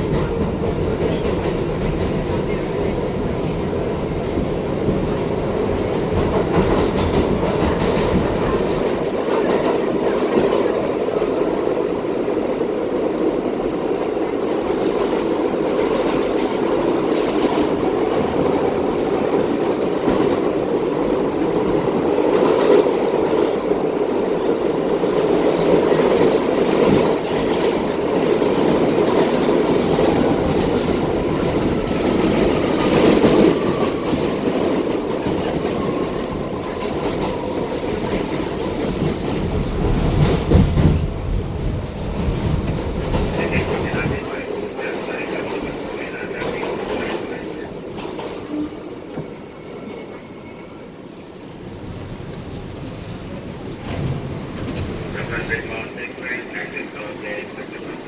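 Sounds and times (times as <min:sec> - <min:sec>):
subway train rumble: 0:00.0 - 0:58.0.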